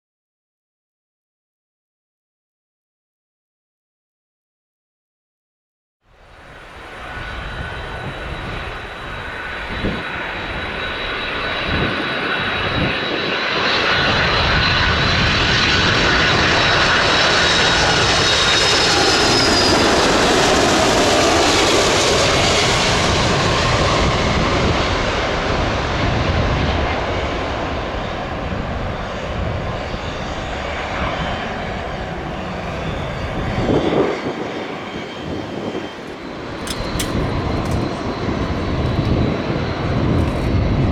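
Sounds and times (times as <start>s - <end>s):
jet engines roaring: 6.1s - 40.9s.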